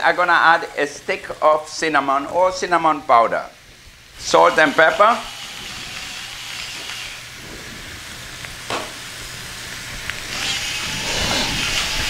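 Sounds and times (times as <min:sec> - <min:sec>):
vegetables sizzling in pot: 0:00.1 - 0:12.0.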